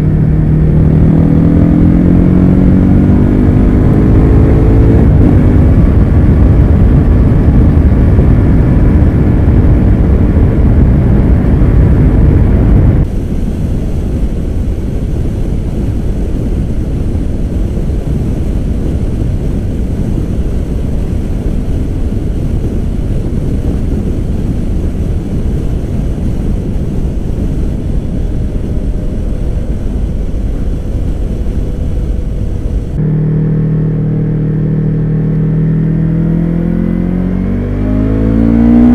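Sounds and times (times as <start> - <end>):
motorcycle engine running: 0.0 - 13.3, 18.0 - 38.9
wind rushing: 0.0 - 38.9.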